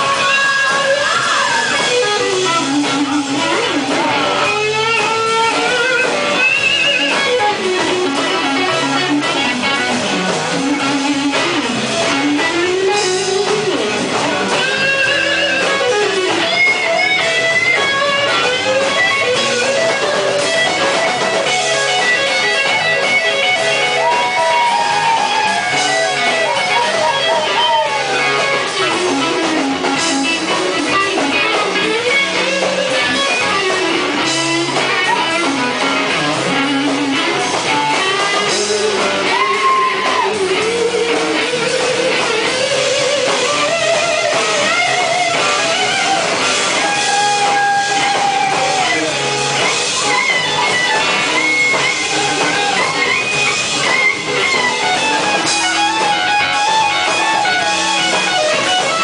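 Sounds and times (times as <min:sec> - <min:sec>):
blues band playing: 0:00.0 - 0:59.0
lead electric guitar bending notes: 0:00.0 - 0:59.0.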